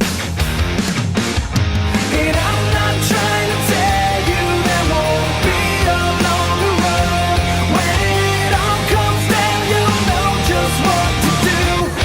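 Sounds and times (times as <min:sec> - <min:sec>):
rock music with distorted guitars: 0:00.0 - 0:12.0
person singing: 0:02.0 - 0:12.0.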